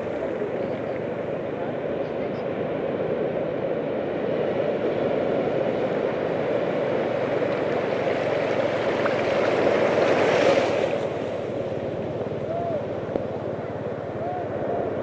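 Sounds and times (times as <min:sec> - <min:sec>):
surf washing over sand: 0:00.0 - 0:15.0.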